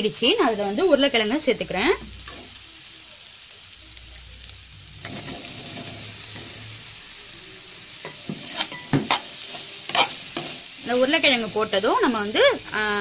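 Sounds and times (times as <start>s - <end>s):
oil sizzling in a pan: 0.0s - 13.0s.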